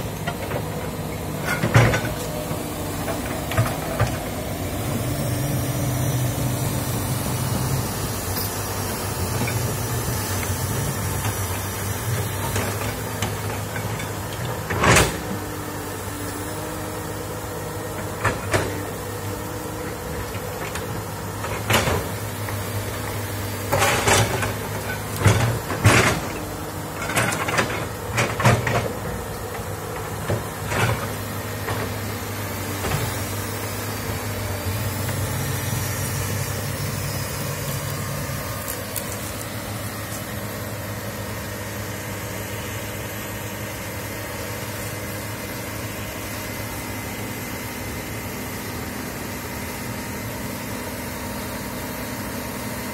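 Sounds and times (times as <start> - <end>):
diesel engine running: 0.0 - 52.9
excavator tracks crawling: 0.0 - 52.9.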